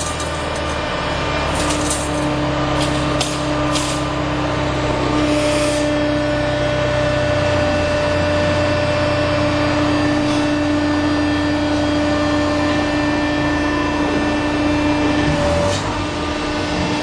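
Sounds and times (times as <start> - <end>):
machine humming tone: 0.0 - 17.0
machine rumble: 0.0 - 17.0.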